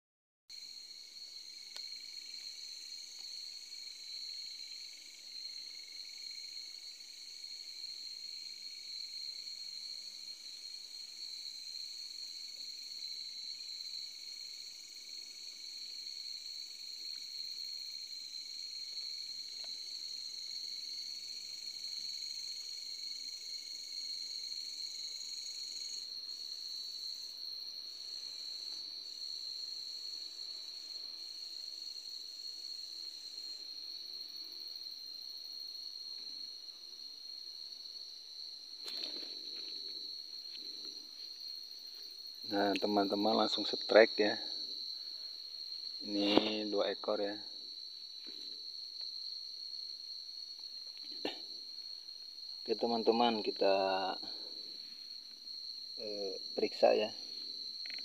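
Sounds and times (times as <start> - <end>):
crickets trilling: 0.5 - 58.0.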